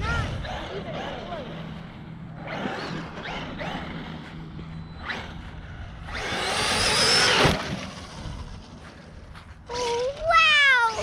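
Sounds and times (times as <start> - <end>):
electric motor whine: 0.0 - 10.2.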